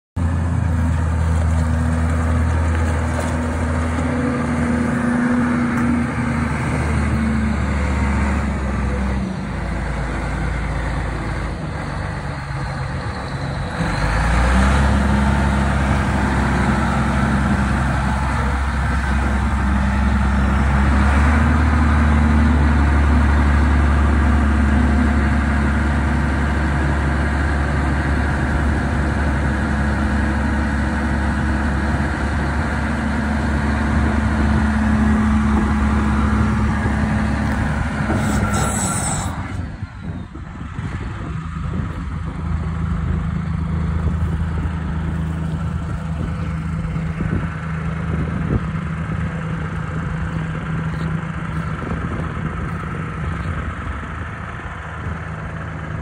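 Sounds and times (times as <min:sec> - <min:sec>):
dump truck diesel engine running: 0:00.2 - 0:56.0.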